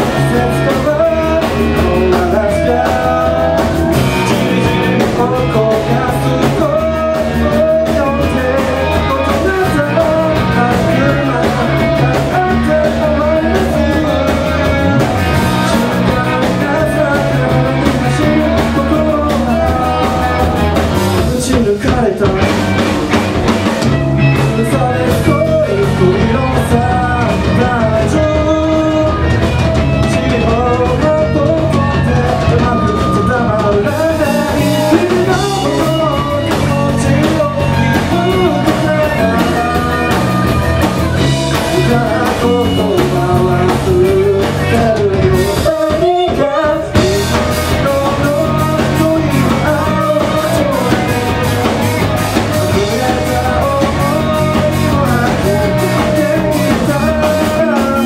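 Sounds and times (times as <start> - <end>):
male lead vocal: 0.0 - 58.0
rock band playing: 0.0 - 58.0.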